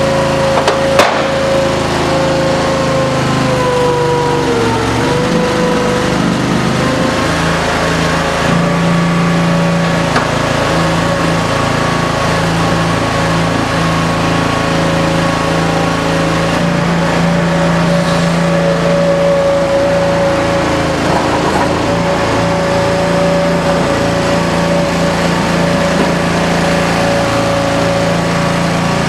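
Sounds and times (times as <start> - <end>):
gas engine running: 0.0 - 29.0
hydraulic pump whine: 0.0 - 29.0.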